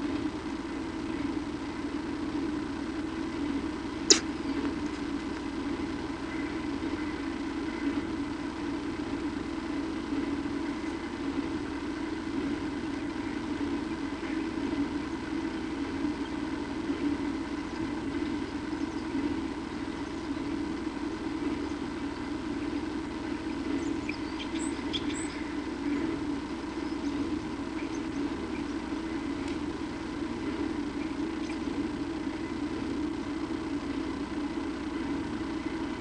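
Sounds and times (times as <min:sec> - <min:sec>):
steady background hum: 0:00.0 - 0:36.0.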